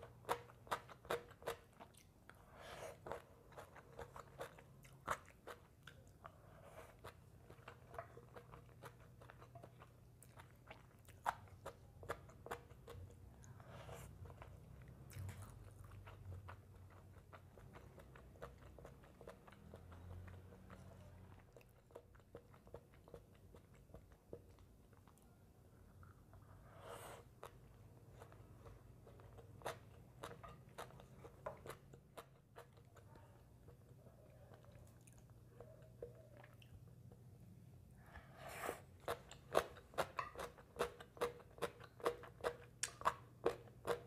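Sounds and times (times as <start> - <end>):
chewing and crunching food: 0.0 - 37.4, 38.7 - 44.0.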